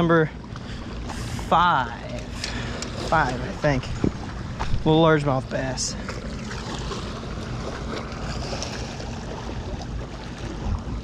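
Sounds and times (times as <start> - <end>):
wind buffeting microphone: 2.0 - 11.0.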